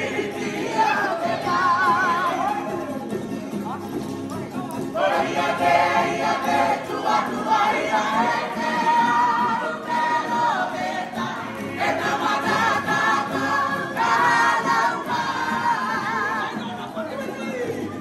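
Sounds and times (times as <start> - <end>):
group singing loudly: 0.0 - 2.7, 4.9 - 16.8
strummed ukuleles: 0.0 - 18.0.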